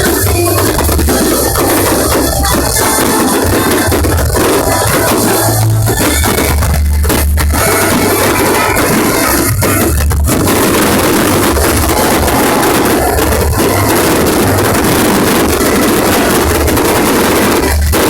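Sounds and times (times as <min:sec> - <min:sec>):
firework bangs and crackle: 0:00.0 - 0:18.0
loud distorted bass music: 0:00.0 - 0:18.0.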